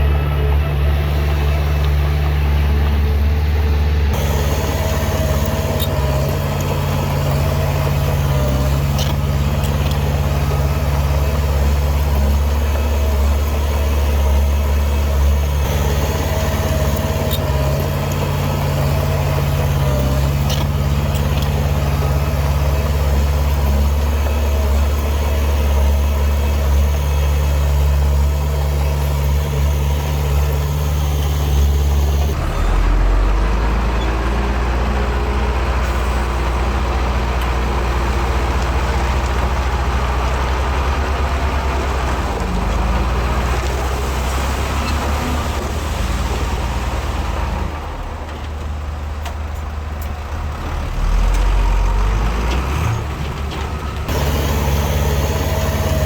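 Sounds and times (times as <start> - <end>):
heavy diesel machinery droning: 0.0 - 56.0.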